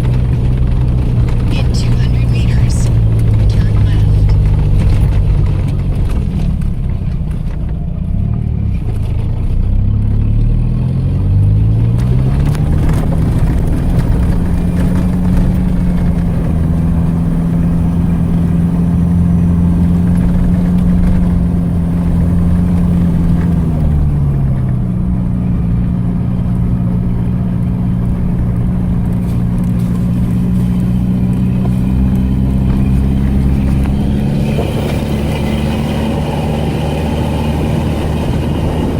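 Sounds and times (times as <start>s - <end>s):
off-road vehicle engine under load: 0.0s - 38.9s.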